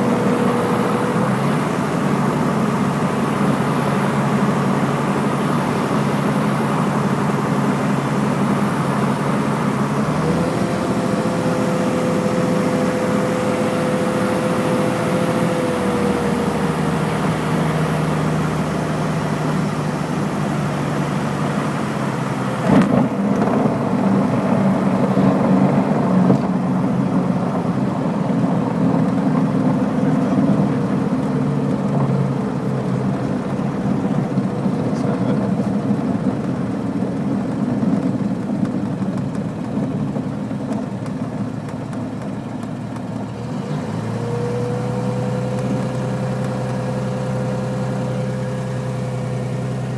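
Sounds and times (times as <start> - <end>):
light aircraft engine droning: 0.0 - 49.9.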